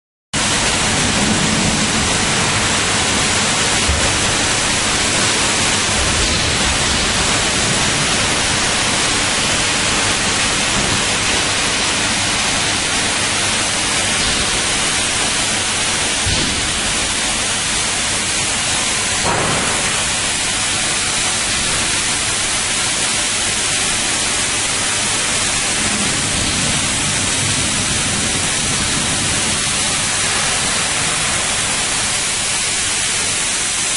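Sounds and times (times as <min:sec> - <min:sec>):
steady loud hiss: 0:00.4 - 0:33.9.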